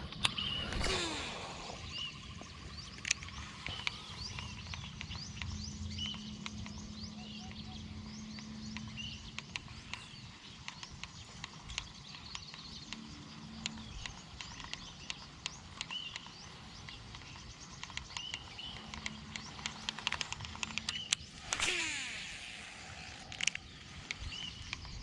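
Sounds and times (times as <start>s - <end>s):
sharp clicks: 0.0s - 25.0s.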